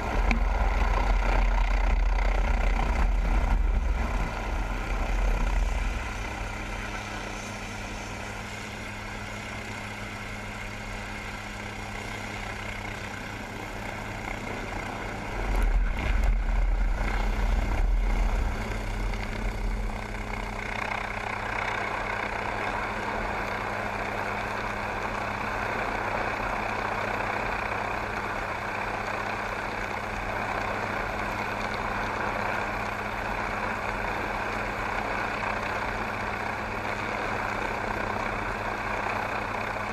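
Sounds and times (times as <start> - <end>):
helicopter turbine and rotors drone: 0.0 - 39.9.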